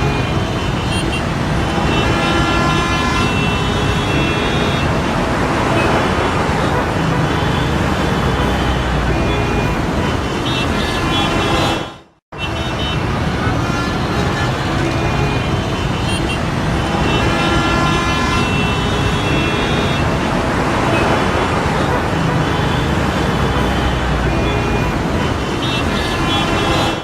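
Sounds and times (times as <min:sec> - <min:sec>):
car horns: 0:00.0 - 0:27.0
cars passing: 0:00.0 - 0:27.0.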